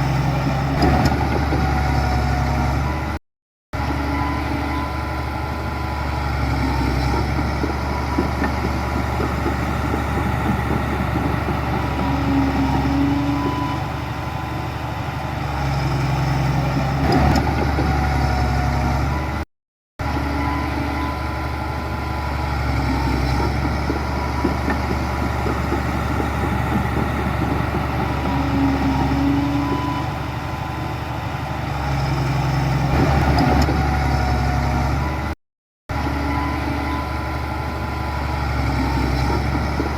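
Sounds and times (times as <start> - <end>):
heavy diesel engine running: 3.8 - 19.4, 20.0 - 39.9.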